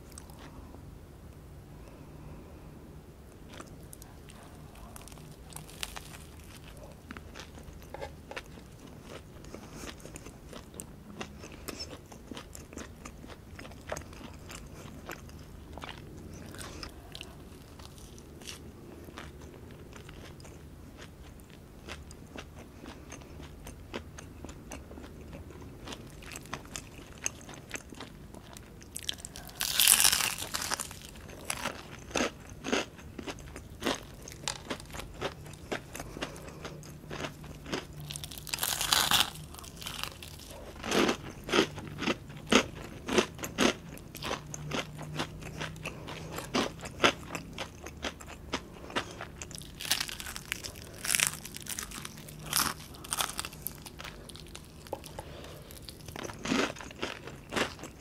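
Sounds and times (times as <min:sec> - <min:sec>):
chewing: 0:03.4 - 0:58.0
crunchy bites of fried chicken: 0:03.5 - 0:21.2, 0:21.9 - 0:58.0.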